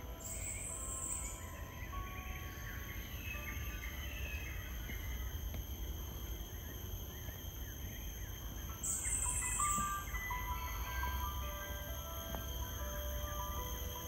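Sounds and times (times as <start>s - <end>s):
high-pitched insect drone: 0.0s - 14.0s
loud high insect buzz: 0.1s - 14.0s.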